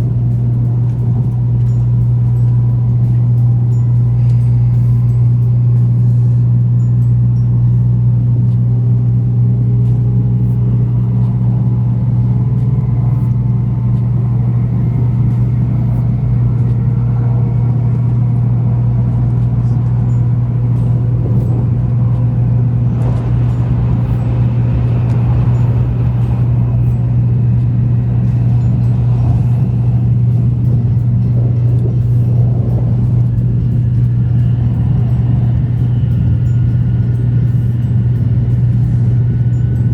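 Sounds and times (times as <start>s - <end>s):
faint whine: 0.0s - 39.9s
train cabin rumble: 0.0s - 39.9s.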